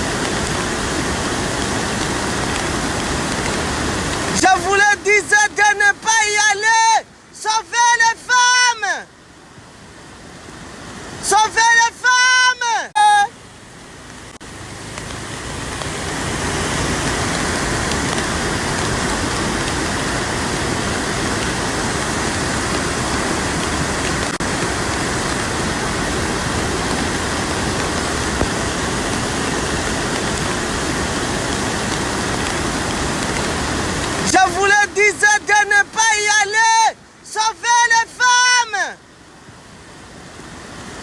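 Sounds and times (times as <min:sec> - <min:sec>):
steady rushing noise: 0:00.0 - 0:41.0.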